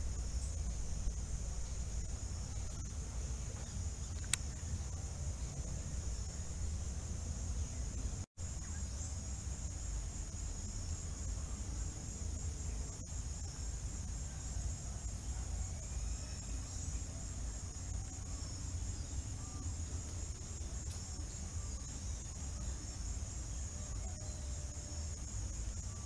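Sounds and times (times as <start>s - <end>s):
faint bird chirps: 0.0s - 9.7s, 10.4s - 26.0s
high-pitched insect chorus: 0.0s - 26.0s.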